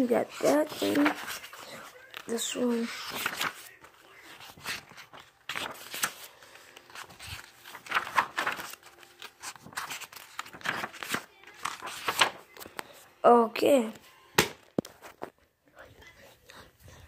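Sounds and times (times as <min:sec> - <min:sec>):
book pages turning: 0:00.0 - 0:13.1, 0:14.0 - 0:15.9.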